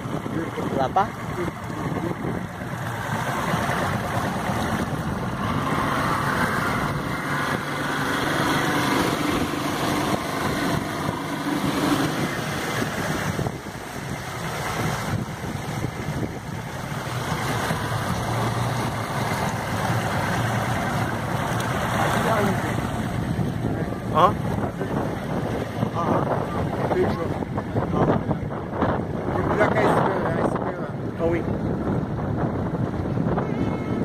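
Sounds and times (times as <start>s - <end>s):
outboard motor running: 0.0s - 34.0s
water rushing: 0.0s - 34.0s
wind: 0.0s - 34.0s.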